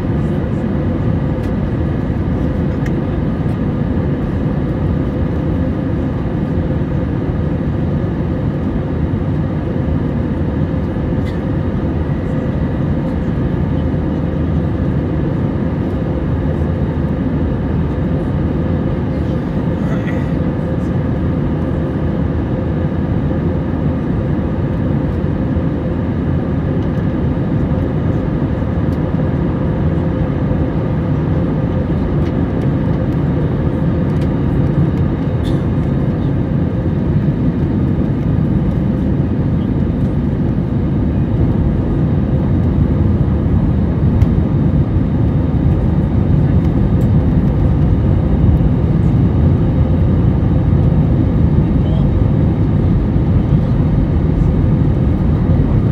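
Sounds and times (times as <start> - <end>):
airliner cabin engine rush: 0.0 - 55.9.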